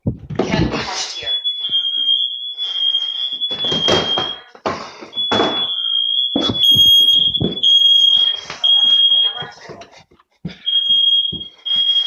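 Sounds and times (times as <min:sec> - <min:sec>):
shrill smoke alarm tone: 0:00.8 - 0:09.7, 0:10.5 - 0:12.0.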